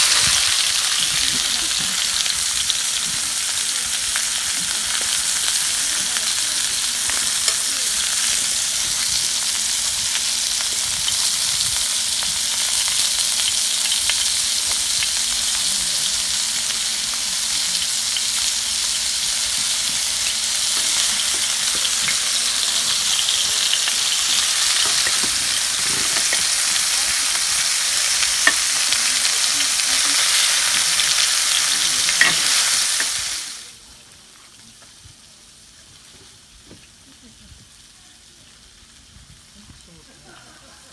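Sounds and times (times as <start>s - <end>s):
wood fire crackling: 0.0s - 37.8s
meat sizzling on a grill pan: 0.0s - 40.9s.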